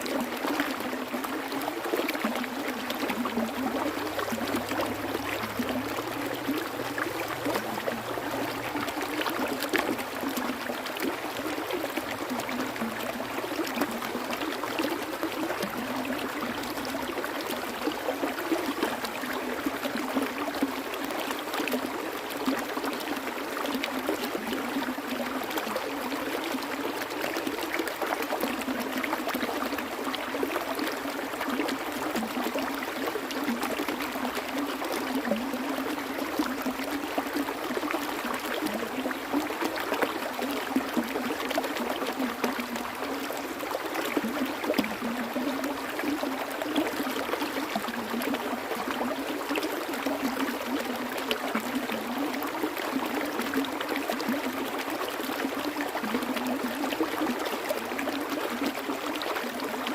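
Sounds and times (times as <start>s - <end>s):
stream babbling and splashing: 0.0s - 59.9s.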